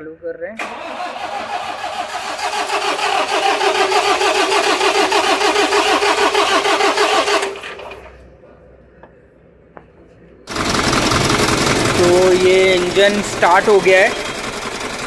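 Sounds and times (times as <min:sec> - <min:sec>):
diesel engine cranking: 0:00.6 - 0:08.2, 0:10.5 - 0:15.0.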